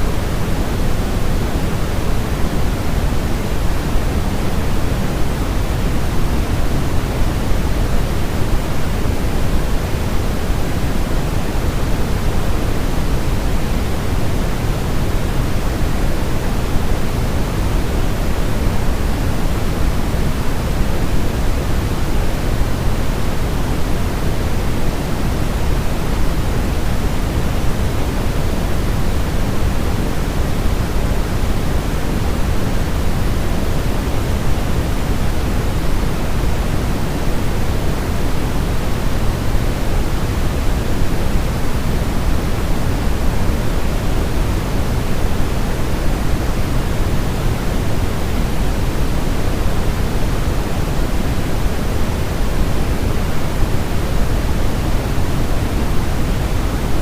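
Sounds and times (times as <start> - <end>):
low white noise: 0.0 - 57.0.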